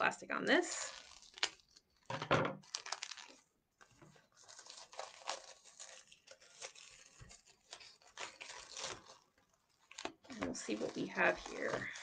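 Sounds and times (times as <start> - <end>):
plastic wrap crinkling and tearing: 0.3 - 12.0.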